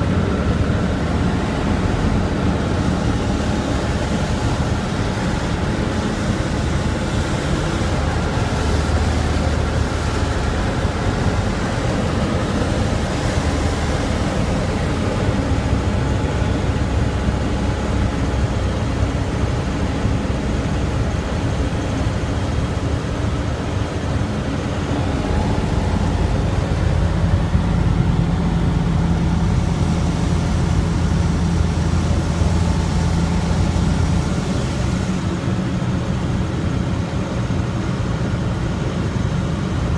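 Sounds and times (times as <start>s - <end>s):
cockpit airflow noise: 0.0s - 39.7s
aircraft engine and propeller droning: 0.0s - 39.9s.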